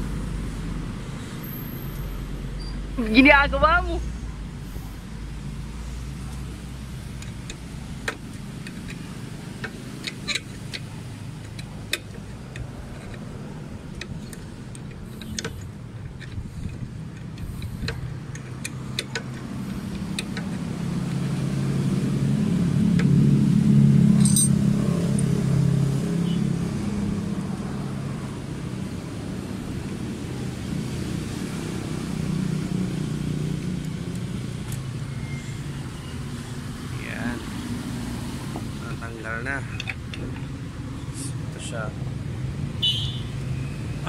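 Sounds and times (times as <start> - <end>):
passing vehicle engine: 0.0 - 44.0.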